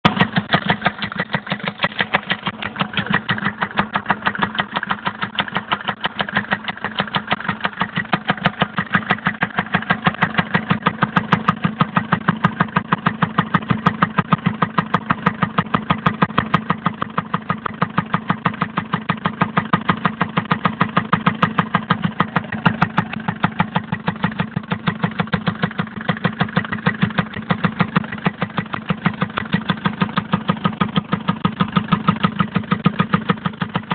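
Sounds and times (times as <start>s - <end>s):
diesel engine idling: 0.0s - 33.9s
fast even engine knock: 0.0s - 33.9s.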